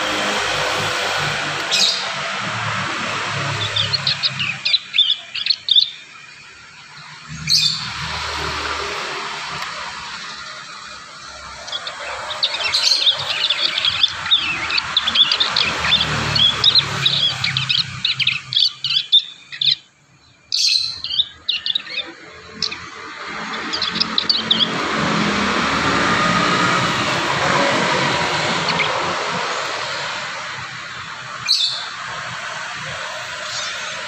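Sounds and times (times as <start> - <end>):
birds chirping and twittering: 0.0 - 34.0.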